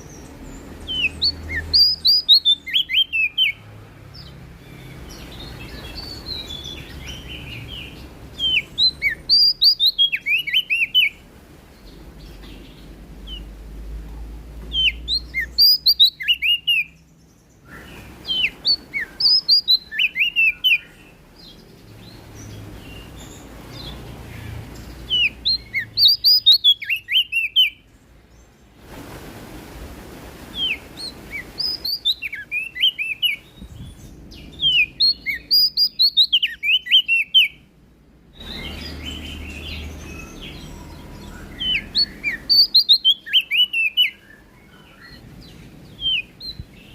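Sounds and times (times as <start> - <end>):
songbird singing: 0.0 - 28.8, 30.4 - 46.9.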